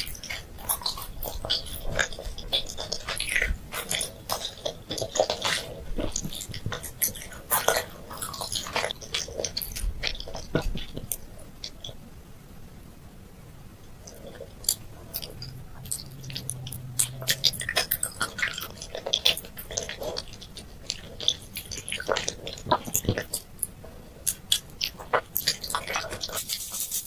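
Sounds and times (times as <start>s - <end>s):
candy being chewed: 0.0s - 12.0s, 13.9s - 27.0s.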